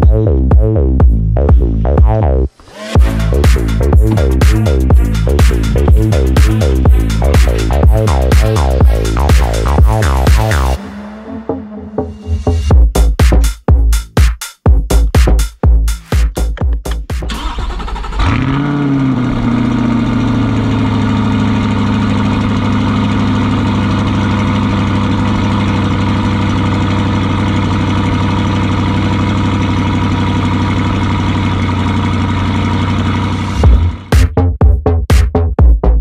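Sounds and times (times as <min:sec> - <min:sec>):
car engine starting and idling: 0:00.0 - 0:13.2, 0:15.9 - 0:34.4.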